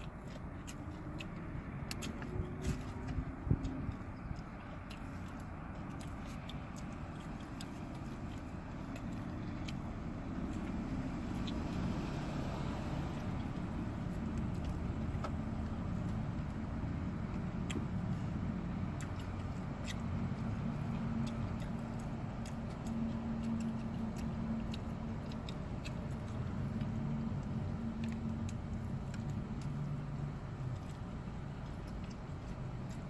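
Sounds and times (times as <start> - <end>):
car engine hum from inside: 0.0 - 33.0.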